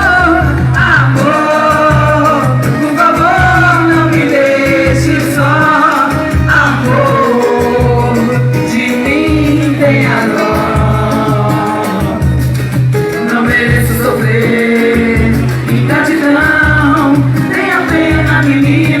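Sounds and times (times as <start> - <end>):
latin-style song with bass beat: 0.0 - 19.0.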